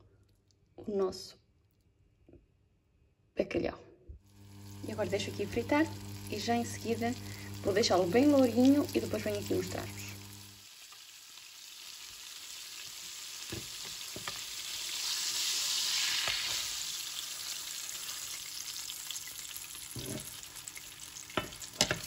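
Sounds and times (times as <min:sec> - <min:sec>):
fish sizzling in a pan: 0:04.3 - 0:22.0.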